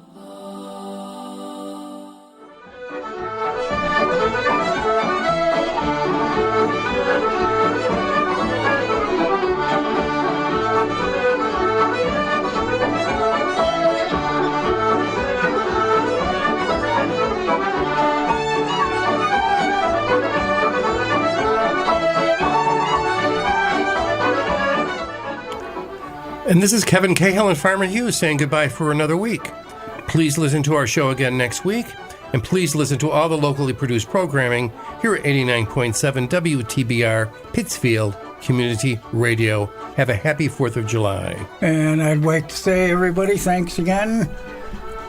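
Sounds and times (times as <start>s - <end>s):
irish traditional music with accordion: 0.0s - 45.0s.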